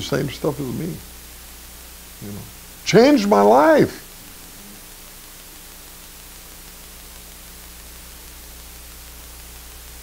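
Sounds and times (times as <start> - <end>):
low even hum: 0.0 - 10.0
steady hiss: 0.0 - 10.0.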